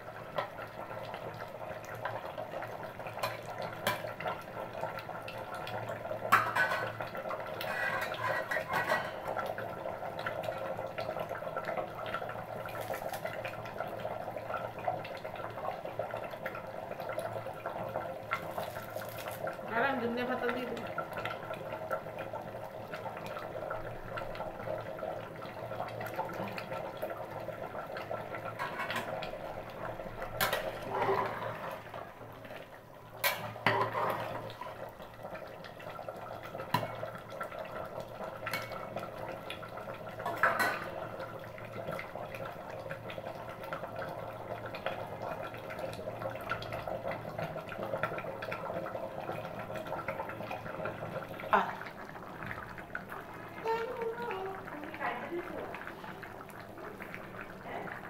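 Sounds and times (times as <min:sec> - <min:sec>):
curry simmering and bubbling: 0:00.0 - 0:58.0.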